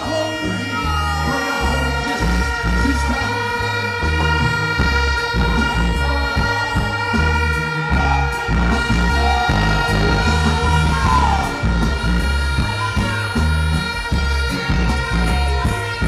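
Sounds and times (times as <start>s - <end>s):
live reggae band music: 0.0s - 16.0s.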